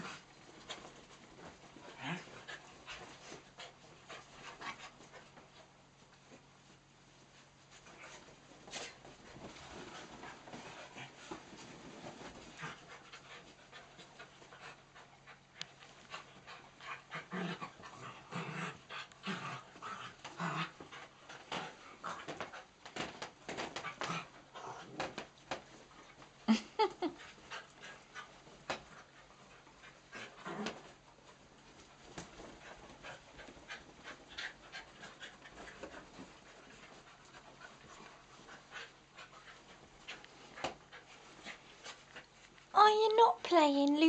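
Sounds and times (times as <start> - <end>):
dogs panting and snuffling: 0.0 - 43.5.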